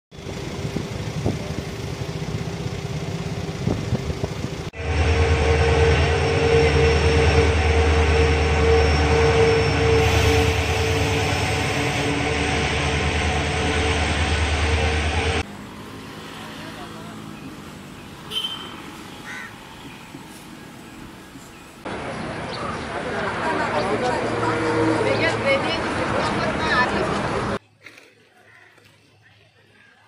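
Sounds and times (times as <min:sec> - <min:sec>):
diesel locomotive engine drone: 0:00.1 - 0:27.6.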